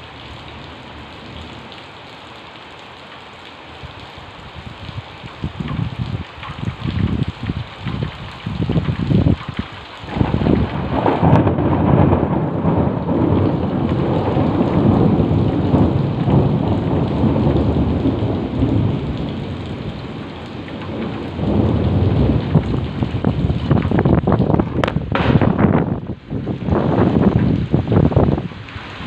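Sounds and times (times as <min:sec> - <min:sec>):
heavy rain pouring: 0:00.0 - 0:29.0
thunder rumbling: 0:05.5 - 0:29.0.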